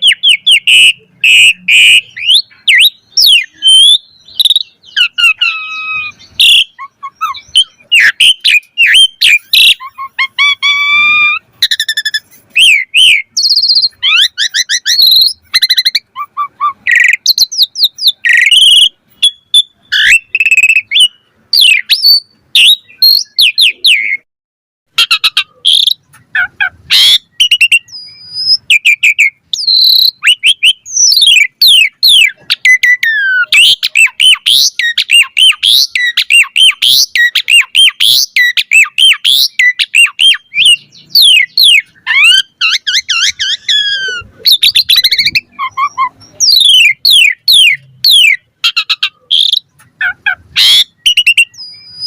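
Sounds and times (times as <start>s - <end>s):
starling singing: 0.0s - 24.3s, 24.9s - 52.0s.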